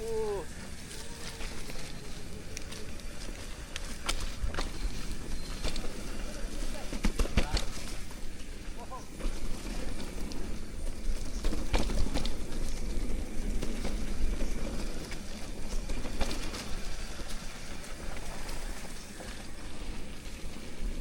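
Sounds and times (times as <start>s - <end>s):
bike tyres rumbling on dirt: 0.0s - 21.0s
bike rattling over bumps: 0.4s - 21.0s.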